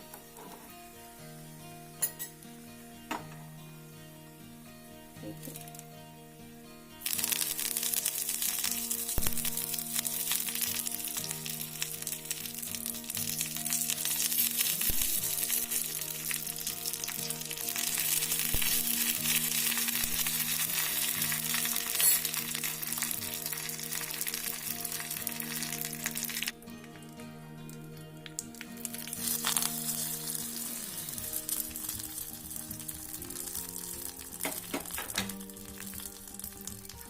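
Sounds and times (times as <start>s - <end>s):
background music of held tones: 0.0s - 37.0s
oil sizzling and crackling: 5.0s - 5.9s, 6.9s - 37.0s.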